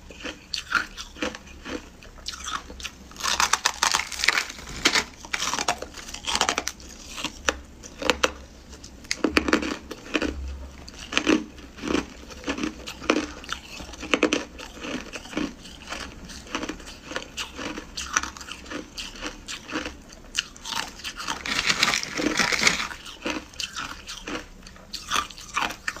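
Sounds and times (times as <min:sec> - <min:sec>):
ice being chewed crunching: 0:00.0 - 0:26.0.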